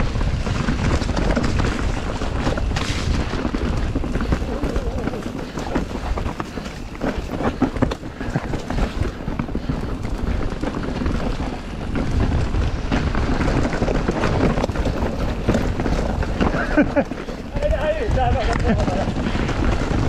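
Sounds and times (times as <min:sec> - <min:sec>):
bike rattling and clattering: 0:00.0 - 0:20.0
bike tyres rolling over dirt: 0:00.0 - 0:20.0.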